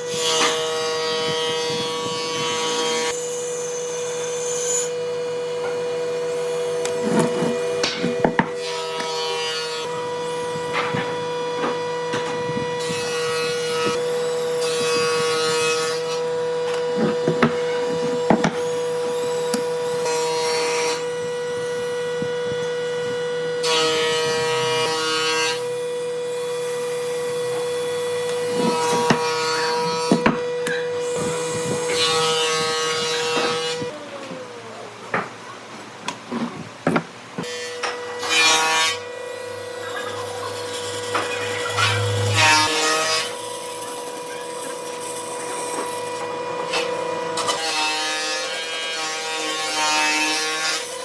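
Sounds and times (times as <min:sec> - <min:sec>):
power tool cutting wood: 0:00.0 - 0:35.2, 0:37.4 - 0:51.0.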